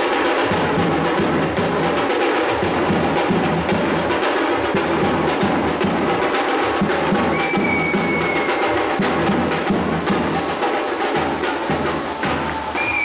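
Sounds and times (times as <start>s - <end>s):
steady drumbeat: 0.0s - 13.0s.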